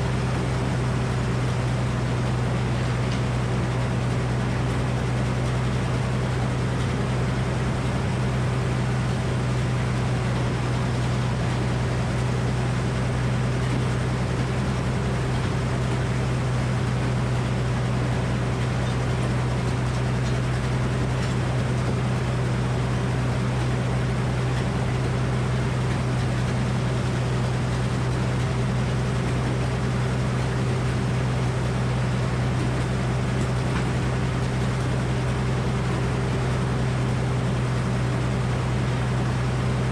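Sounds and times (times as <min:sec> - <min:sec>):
sawmill engine humming: 0:00.0 - 0:39.9.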